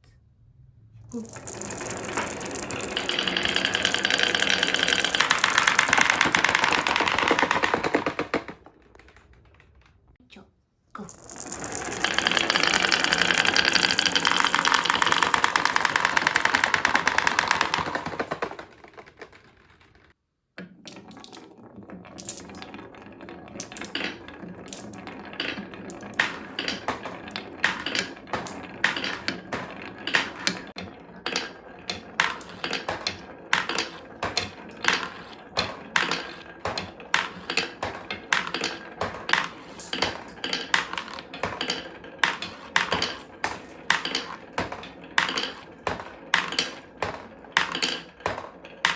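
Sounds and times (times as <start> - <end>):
marbles clacking: 1.1 - 10.1, 11.0 - 48.9
marbles rattling down wooden track: 1.1 - 10.1, 11.0 - 48.9.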